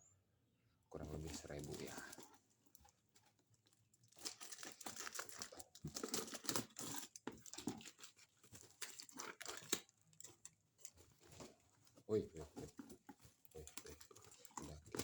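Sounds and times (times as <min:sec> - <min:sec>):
packaging crinkling and rustling: 0:01.0 - 0:15.0.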